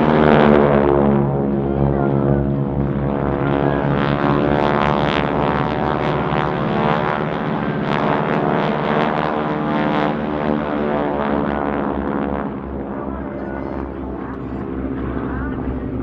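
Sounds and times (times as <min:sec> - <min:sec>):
radial engine and propeller: 0:00.0 - 0:16.0.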